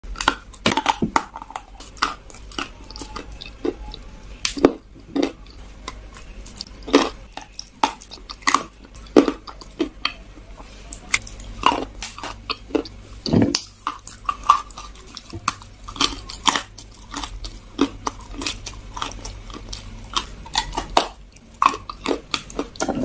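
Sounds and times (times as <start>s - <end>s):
crunchy chewing: 0.1s - 23.0s.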